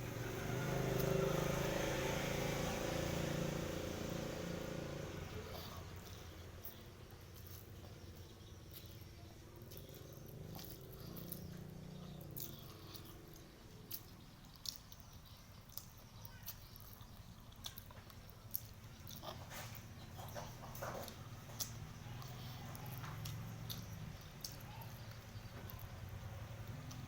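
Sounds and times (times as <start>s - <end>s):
faint chewing: 0.0s - 27.0s
sharp crunches of chewing: 0.1s - 27.0s.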